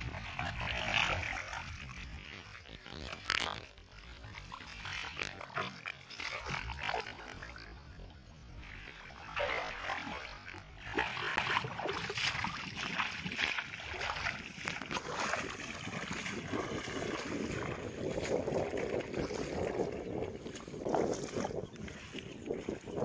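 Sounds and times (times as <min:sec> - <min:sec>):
footsteps splashing through water: 0:00.0 - 0:07.7, 0:08.6 - 0:23.0.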